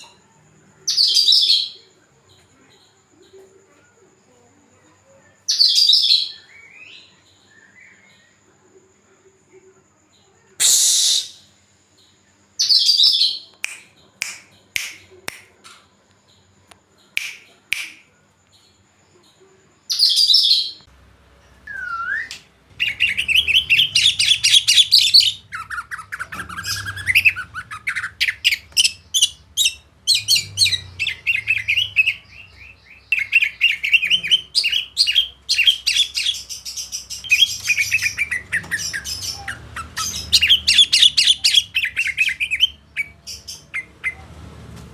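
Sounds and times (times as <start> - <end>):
songbird chirping and trilling: 0.0 - 44.7.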